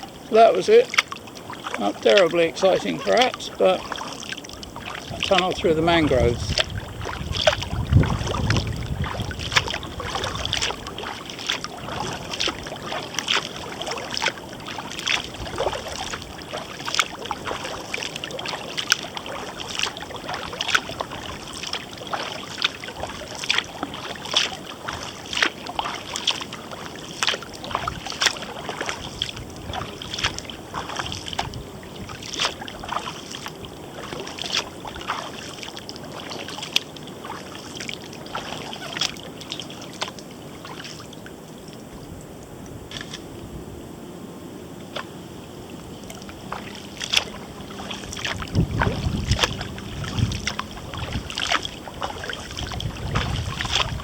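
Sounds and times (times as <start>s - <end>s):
water dripping: 0.0s - 41.8s, 45.7s - 54.0s
kayak paddle splashing: 0.0s - 54.0s.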